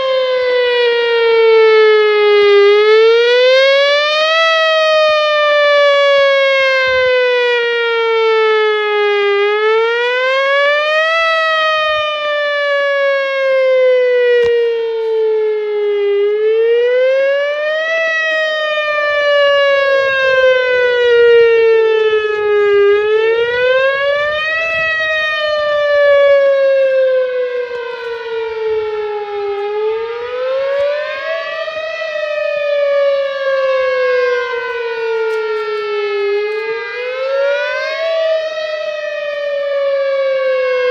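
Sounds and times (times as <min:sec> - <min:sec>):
siren echo off buildings: 0:00.0 - 0:40.9
warning siren wailing: 0:00.0 - 0:40.9.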